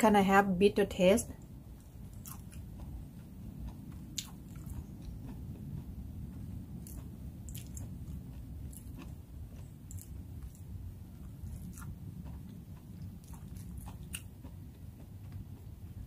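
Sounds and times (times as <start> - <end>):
low background rumble: 0.0 - 16.0
person chewing crunchy food: 1.4 - 16.0.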